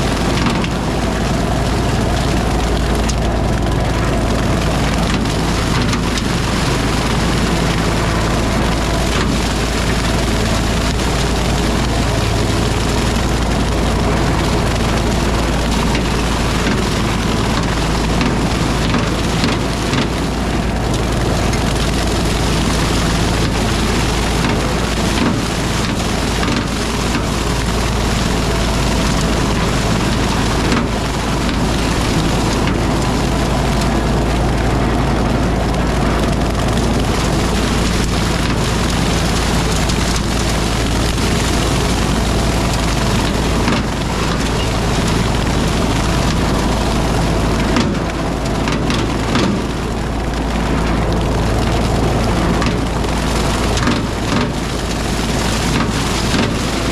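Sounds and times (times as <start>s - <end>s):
rotary cutter shredding brush: 0.0s - 56.9s
tractor engine hum: 0.0s - 56.9s
wood cracking: 0.1s - 56.9s.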